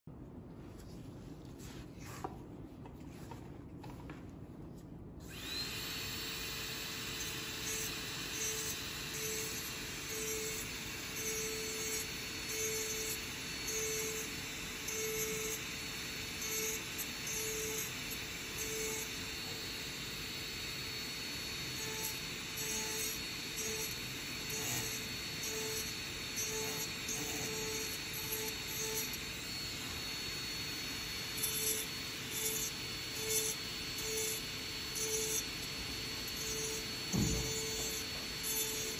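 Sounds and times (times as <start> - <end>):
dental handpiece grinding whine: 5.2 - 38.9.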